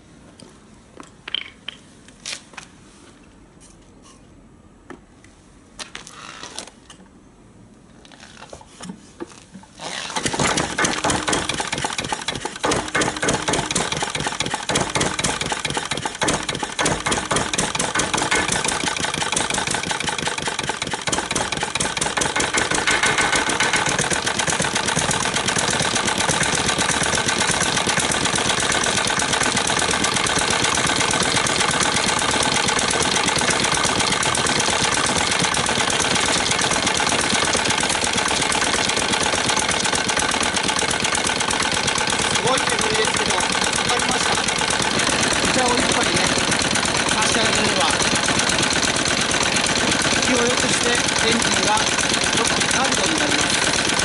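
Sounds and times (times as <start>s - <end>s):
diesel engine running: 10.6s - 54.0s.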